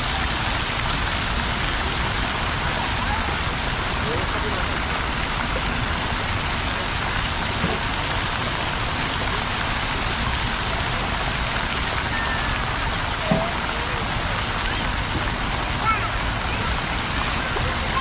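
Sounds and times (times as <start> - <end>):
water feature splashing: 0.0 - 18.0.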